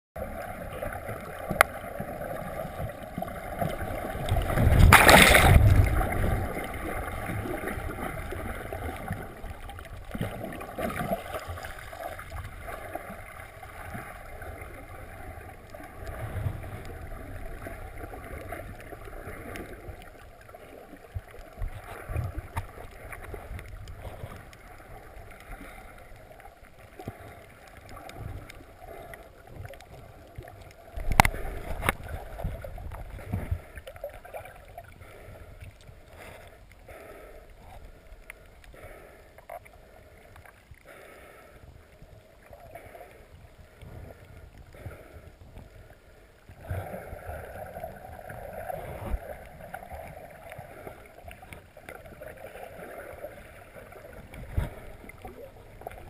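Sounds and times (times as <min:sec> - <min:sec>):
water rushing and splashing: 0:00.2 - 0:56.0.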